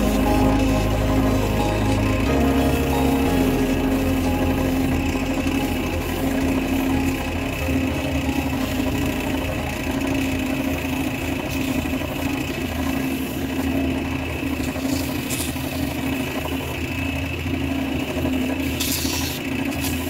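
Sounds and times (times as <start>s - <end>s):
wood lathe motor humming: 0.0s - 20.0s.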